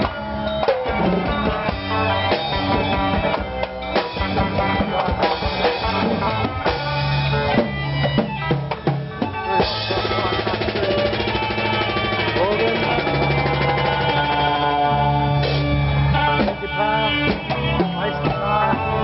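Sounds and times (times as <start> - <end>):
held melody notes: 0.0 - 19.0.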